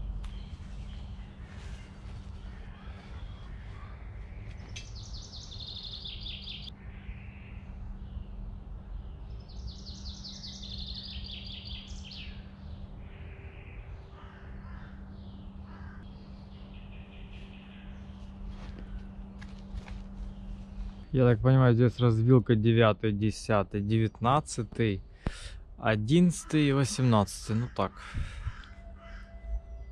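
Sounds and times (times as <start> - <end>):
faint bird calls: 0.0 - 21.2, 26.2 - 29.9
bird song of rapid repeated notes: 0.0 - 29.9
steady low hum: 0.0 - 29.9.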